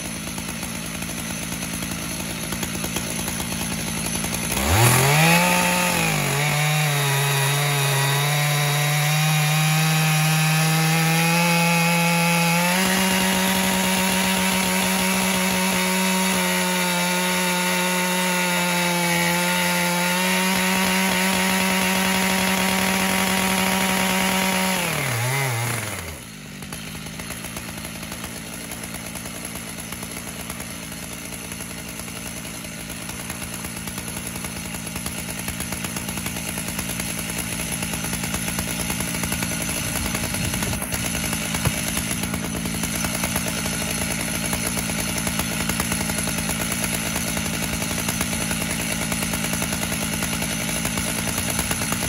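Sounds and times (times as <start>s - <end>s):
chainsaw cutting log: 0.0s - 52.0s
chainsaw idling: 0.0s - 52.0s.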